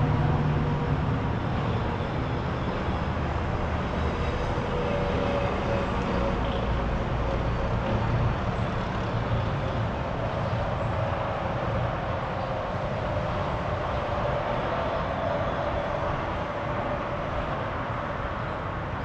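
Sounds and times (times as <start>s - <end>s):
distant road traffic rumble: 0.0s - 19.0s.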